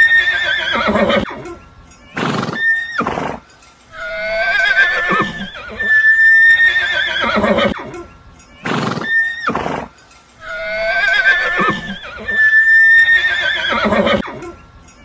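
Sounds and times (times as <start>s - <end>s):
horse whinnying: 0.0s - 1.6s, 2.2s - 3.4s, 4.0s - 14.6s.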